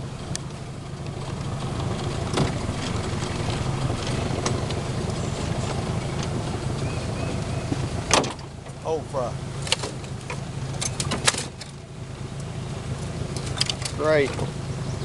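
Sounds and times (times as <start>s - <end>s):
outboard motor droning: 0.0s - 15.0s.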